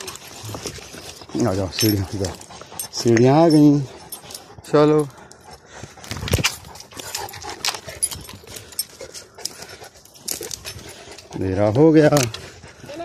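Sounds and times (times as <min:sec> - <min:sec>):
footsteps on forest path: 0:00.0 - 0:13.0.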